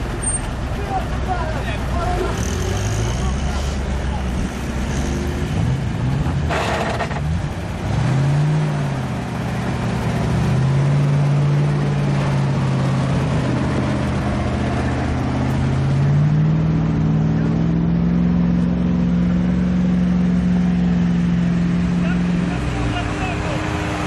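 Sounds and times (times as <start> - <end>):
truck engine under load: 0.0 - 24.0.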